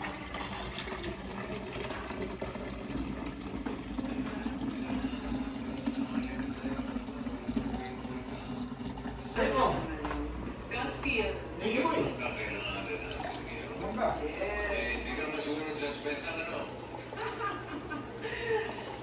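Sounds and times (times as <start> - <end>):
water running into a container: 0.0 - 19.0.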